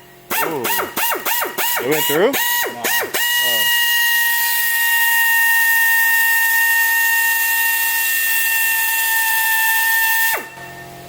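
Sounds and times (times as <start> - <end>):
high-pitched power tool whine: 0.0 - 11.0.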